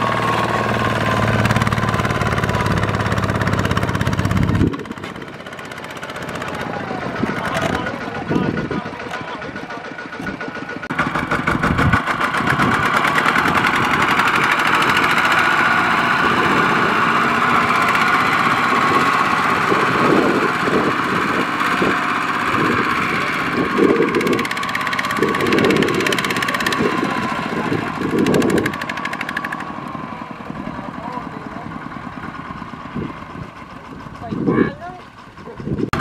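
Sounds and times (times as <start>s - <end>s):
diesel tractor engine running hard: 0.0s - 36.0s.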